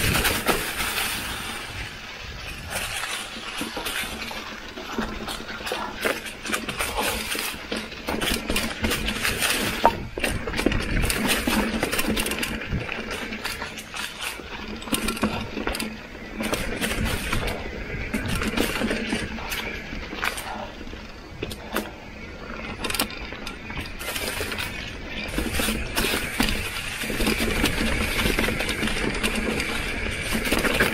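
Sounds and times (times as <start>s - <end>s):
bike clicks and rattles: 0.0s - 30.9s
tyres crunching through leaves: 0.0s - 30.9s.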